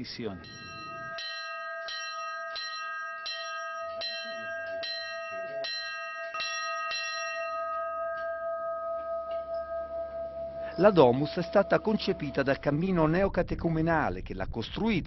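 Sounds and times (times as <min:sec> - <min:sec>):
hanging bell ringing: 0:00.0 - 0:13.3.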